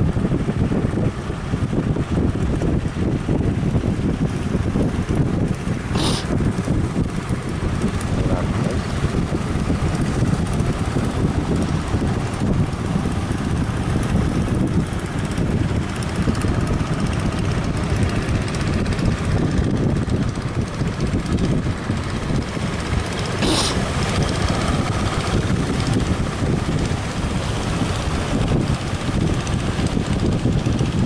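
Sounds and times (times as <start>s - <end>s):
boat engines droning: 0.0s - 31.0s
wind buffeting microphone: 0.0s - 31.0s.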